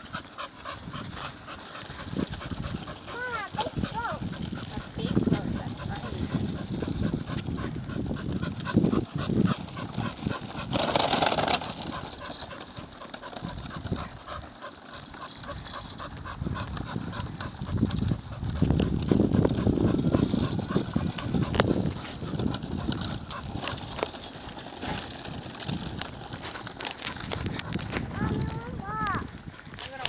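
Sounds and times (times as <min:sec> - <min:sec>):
dog paws ticking: 0:00.0 - 0:30.0
footsteps on pavement: 0:00.0 - 0:30.0
wagon wheels rumbling on asphalt: 0:00.0 - 0:30.0.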